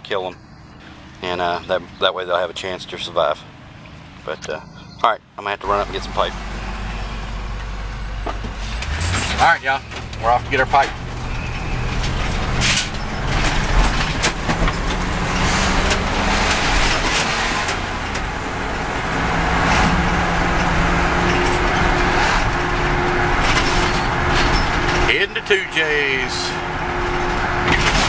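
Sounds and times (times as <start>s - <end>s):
vehicle engine and tyre noise: 0.0s - 28.0s.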